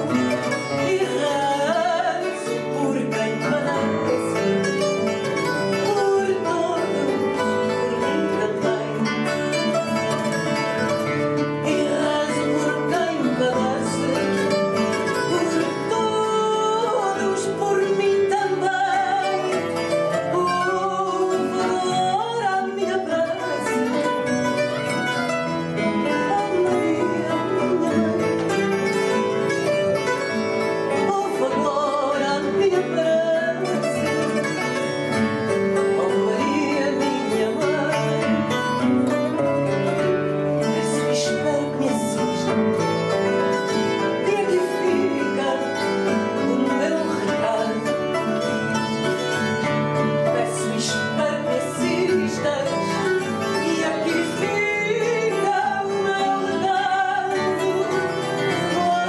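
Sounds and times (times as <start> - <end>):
classical guitar: 0.0 - 59.0
plucked guitar lines: 0.0 - 59.0
woman singing: 0.0 - 59.0.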